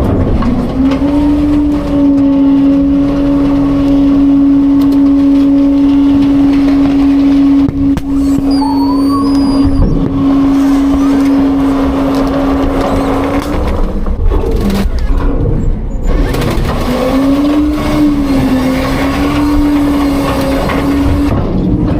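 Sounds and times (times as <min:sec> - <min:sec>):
garbage truck engine rumble: 0:00.0 - 0:21.9
truck whine: 0:00.0 - 0:21.9.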